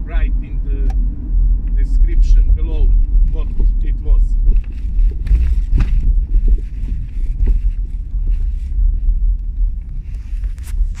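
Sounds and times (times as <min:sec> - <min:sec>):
road rumble inside car: 0:00.0 - 0:11.0.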